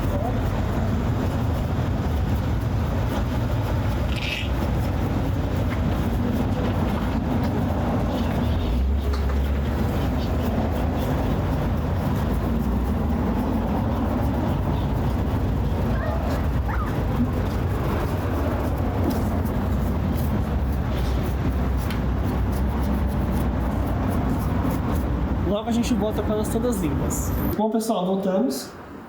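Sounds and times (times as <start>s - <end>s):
street traffic rumble: 0.0s - 29.0s
vehicles passing: 0.0s - 29.0s.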